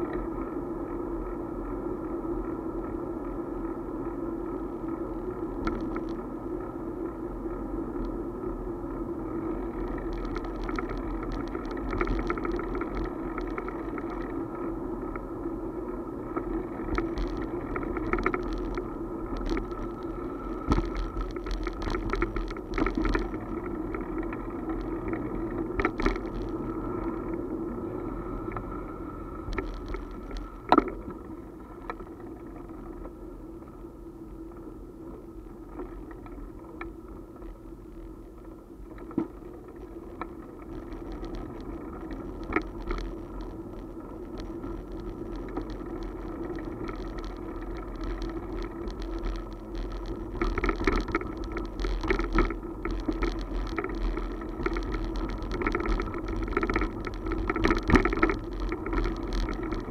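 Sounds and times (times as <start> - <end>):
motorcycle riding hum: 0.0 - 59.9
rattles and clicks over bumps: 4.9 - 6.6, 9.1 - 33.8, 34.5 - 59.9.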